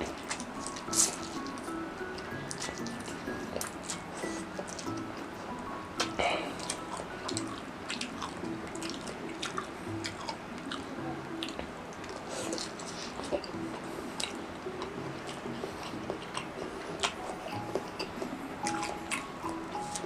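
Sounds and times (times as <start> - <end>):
wet chewing and mouth clicks: 0.0 - 5.3, 6.0 - 20.0
soft background music: 0.0 - 20.0.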